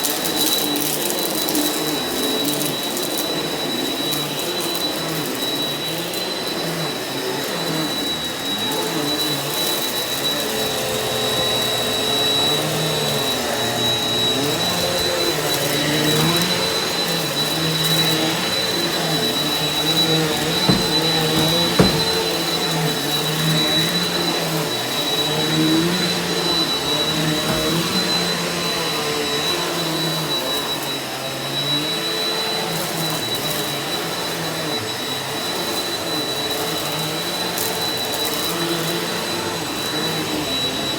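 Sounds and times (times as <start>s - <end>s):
vacuum cleaner running over carpet: 0.0s - 40.9s.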